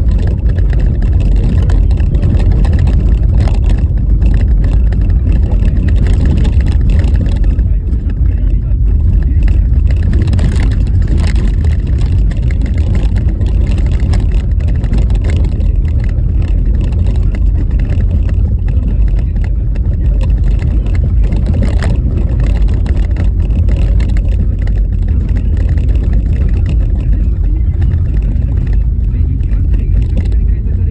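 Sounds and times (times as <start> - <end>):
knocks and rattles: 0.0 - 30.9
road and wind rumble: 0.0 - 30.9.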